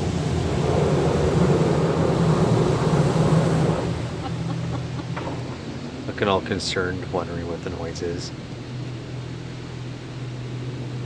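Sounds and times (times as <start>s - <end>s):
car wash rushing water: 0.0s - 11.0s
low machine hum: 0.0s - 11.0s.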